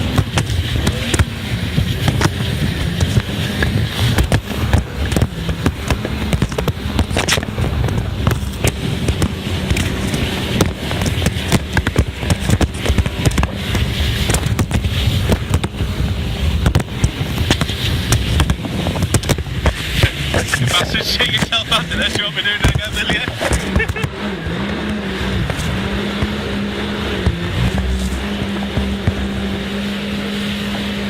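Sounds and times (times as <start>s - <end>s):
wind buffeting microphone: 0.0s - 22.1s, 22.7s - 31.0s
hull slapping over waves: 0.0s - 31.0s
jet ski engine rumble: 0.0s - 31.0s
water spray crackling: 0.0s - 31.0s.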